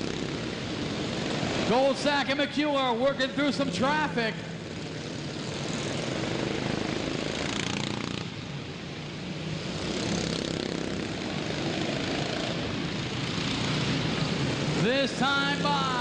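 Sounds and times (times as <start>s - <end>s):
racing lawn mower engines: 0.0s - 16.0s.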